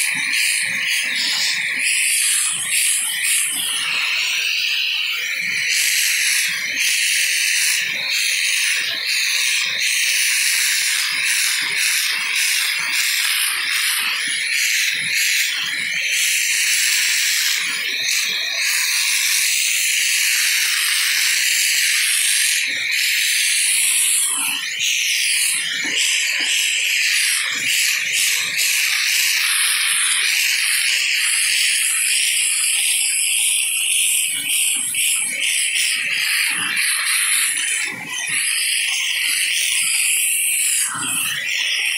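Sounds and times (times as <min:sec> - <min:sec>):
handheld vacuum whining: 0:00.0 - 0:41.9.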